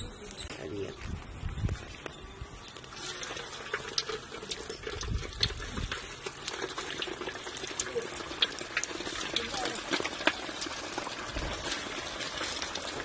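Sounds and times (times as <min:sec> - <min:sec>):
hot oil sizzling and popping: 0:01.6 - 0:13.0.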